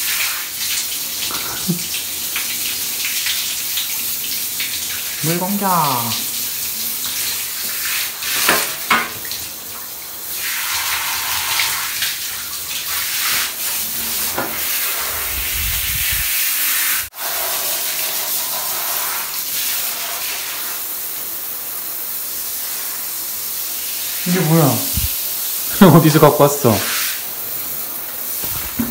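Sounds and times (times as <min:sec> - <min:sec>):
shower head spraying water: 0:04.6 - 0:09.4, 0:10.3 - 0:28.9.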